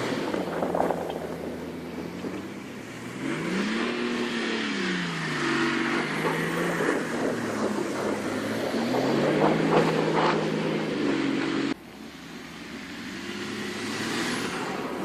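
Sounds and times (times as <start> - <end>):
diesel engine revving hard: 0.0 - 15.0
tyres churning snow: 0.0 - 15.0.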